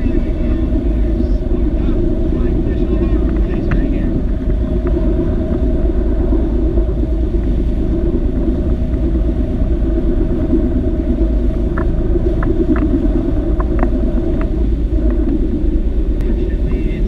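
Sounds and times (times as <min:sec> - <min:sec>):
boat engine rumble: 0:00.0 - 0:17.0
moving water: 0:00.0 - 0:17.0.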